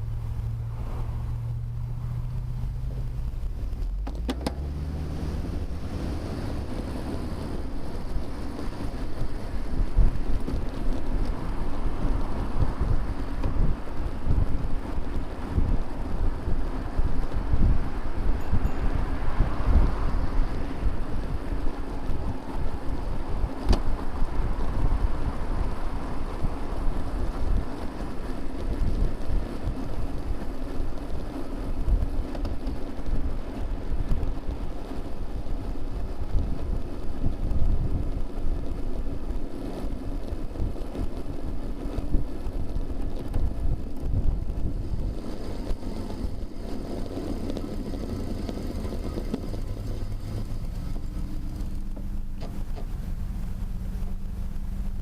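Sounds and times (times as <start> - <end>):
traffic hum: 0.0 - 55.0
wind rumbling on microphone: 0.0 - 55.0.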